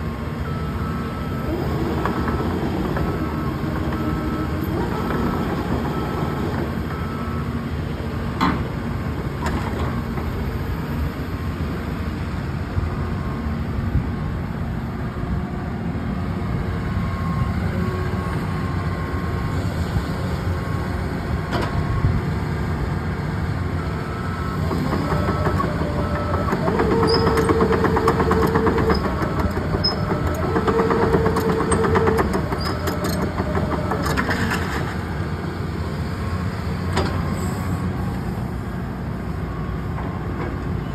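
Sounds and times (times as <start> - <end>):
excavator diesel engine under load: 0.0 - 40.9
hydraulic and track noise: 0.0 - 40.9.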